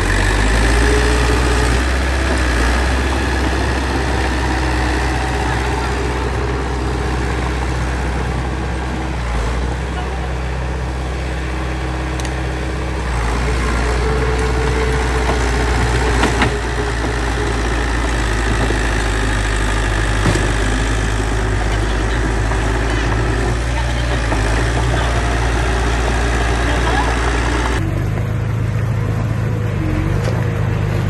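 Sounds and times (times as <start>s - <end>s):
diesel engine droning: 0.0s - 31.0s.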